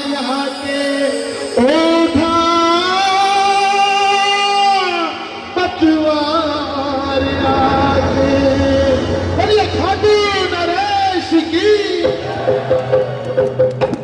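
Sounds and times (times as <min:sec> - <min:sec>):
musical accompaniment: 0:00.0 - 0:14.0.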